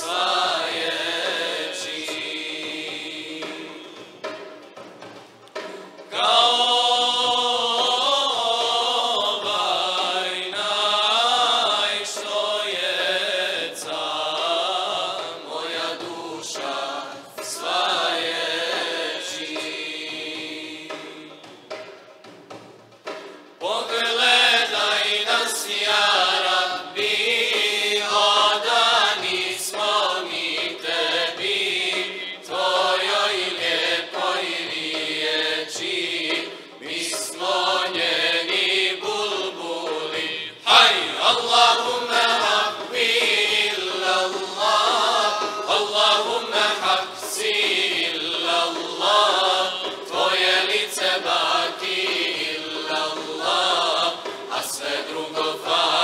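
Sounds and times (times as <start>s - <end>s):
women's choir singing a hymn: 0.0s - 4.3s, 6.1s - 21.6s, 23.6s - 56.0s.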